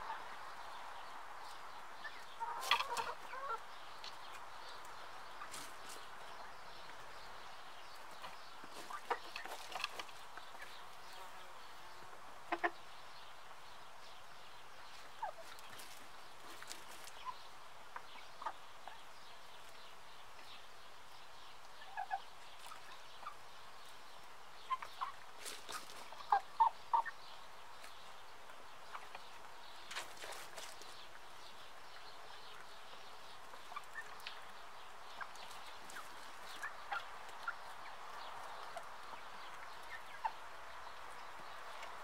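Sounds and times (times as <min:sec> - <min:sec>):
hens clucking softly: 0:00.0 - 0:11.2, 0:12.4 - 0:12.9, 0:14.9 - 0:20.6, 0:21.6 - 0:42.0.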